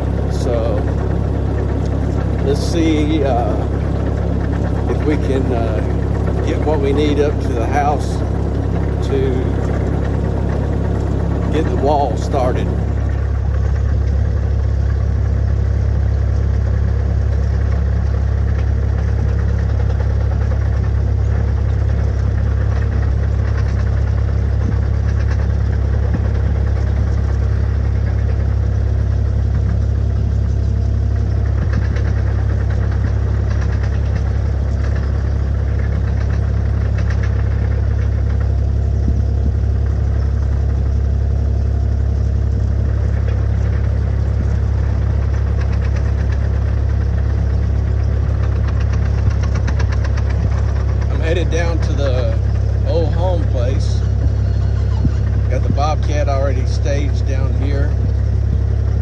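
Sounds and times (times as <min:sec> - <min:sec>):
vehicle engine running steadily: 0:00.0 - 0:59.0.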